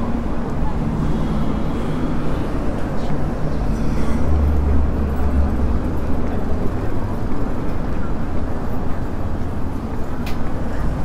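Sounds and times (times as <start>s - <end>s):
traffic noise: 0.0s - 11.0s
vehicle engine drone: 0.0s - 11.0s.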